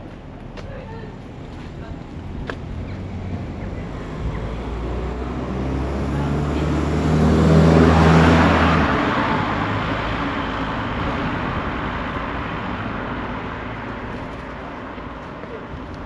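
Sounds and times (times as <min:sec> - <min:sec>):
vehicle engine hum passing: 0:00.0 - 0:16.0.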